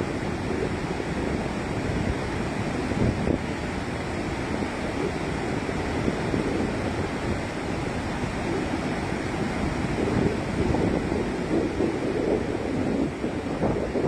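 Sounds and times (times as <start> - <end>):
water rushing: 0.0 - 14.0
wind buffeting microphone: 0.0 - 14.0.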